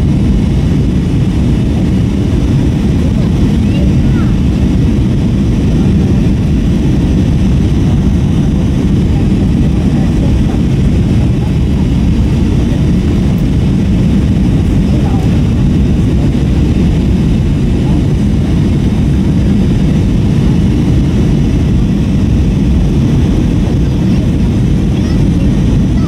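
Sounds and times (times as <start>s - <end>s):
airflow over fuselage: 0.0s - 26.0s
airplane cabin engine noise: 0.0s - 26.0s.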